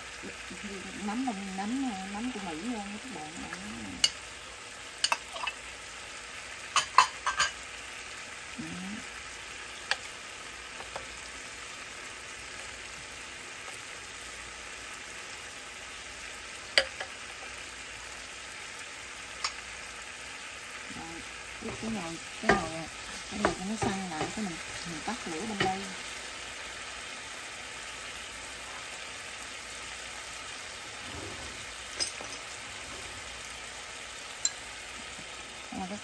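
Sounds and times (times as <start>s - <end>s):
tofu sizzling in oil: 0.0s - 36.0s.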